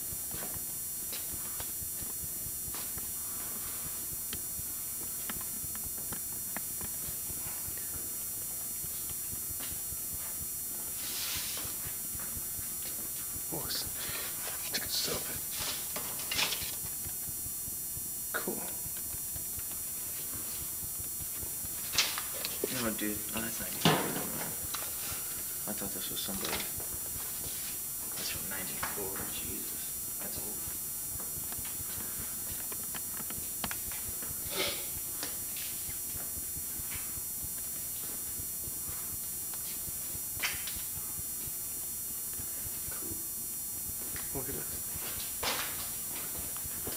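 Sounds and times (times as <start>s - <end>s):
camcorder hiss: 0.0s - 46.9s.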